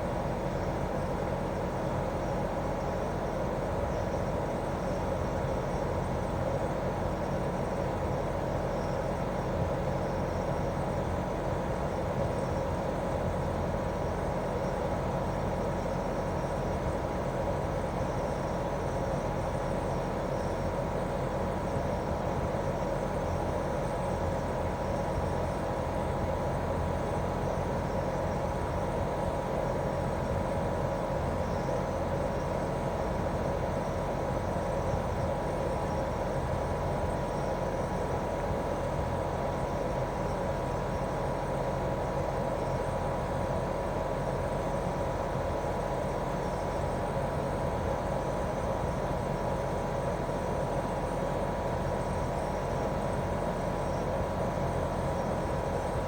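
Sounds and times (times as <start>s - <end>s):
air conditioner outdoor unit humming: 0.0s - 56.0s.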